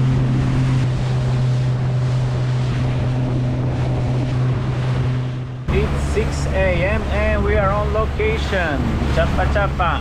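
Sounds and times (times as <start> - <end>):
boat engine droning: 0.0 - 10.0
water rushing past hull: 0.0 - 10.0
wind buffeting microphone: 0.0 - 10.0.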